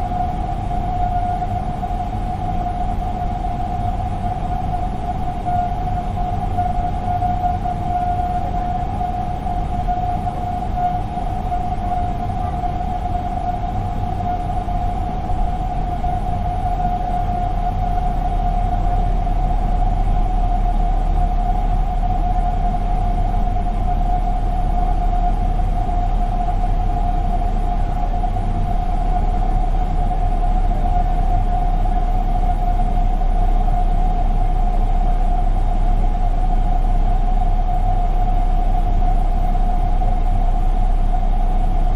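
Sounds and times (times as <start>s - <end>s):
constant engine whine: 0.0s - 41.9s
jet engine cabin rumble: 0.0s - 41.9s.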